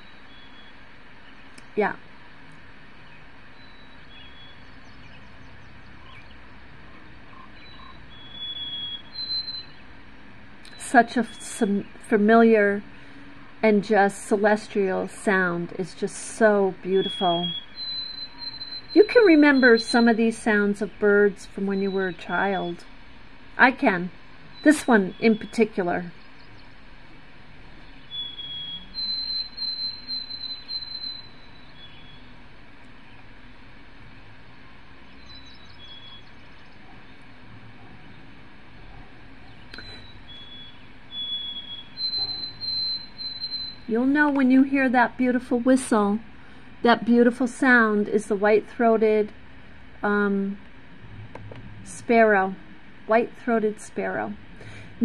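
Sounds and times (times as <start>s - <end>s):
recorded bird song through speaker: 0.0s - 2.1s, 3.0s - 23.0s, 23.6s - 26.8s, 27.6s - 33.3s, 34.9s - 49.3s, 51.9s - 54.4s.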